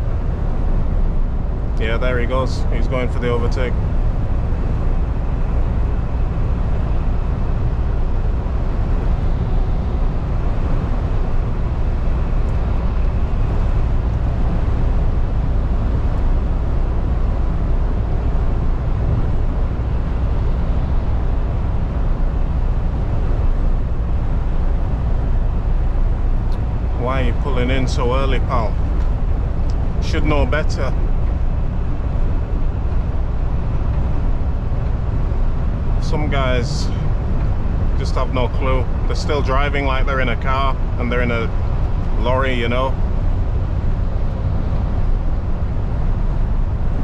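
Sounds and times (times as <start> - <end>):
lorry engine rumble: 0.0 - 47.0.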